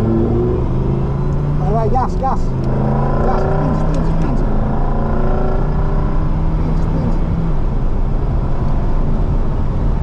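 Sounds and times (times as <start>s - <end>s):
car engine under throttle: 0.0s - 10.0s
road and wind rumble: 0.0s - 10.0s.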